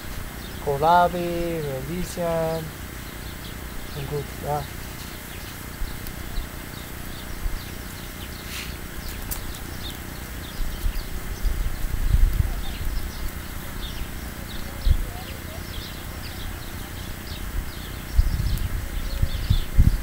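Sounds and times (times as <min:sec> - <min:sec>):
steady hiss: 0:00.0 - 0:20.0
wind rumble on microphone: 0:00.0 - 0:20.0.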